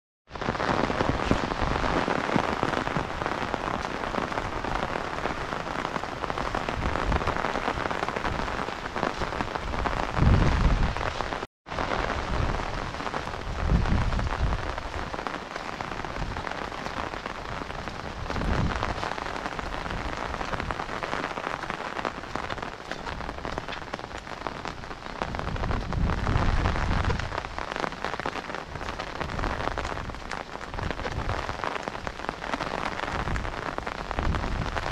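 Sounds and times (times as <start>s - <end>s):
heavy rain falling: 0.3s - 34.9s.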